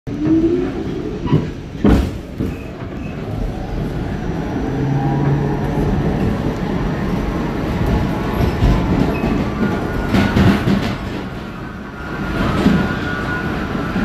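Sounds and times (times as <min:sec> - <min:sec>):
subway train rumbling: 0:00.1 - 0:14.0.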